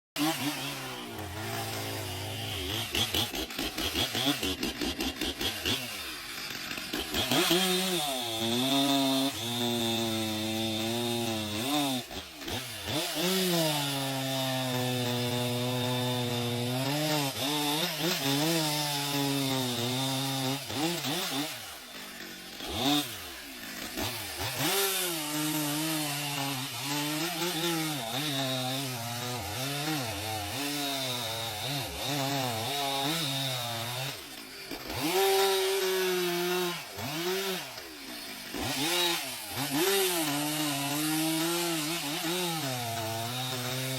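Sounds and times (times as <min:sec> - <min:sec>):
chainsaw cutting wood: 0:00.2 - 0:43.9.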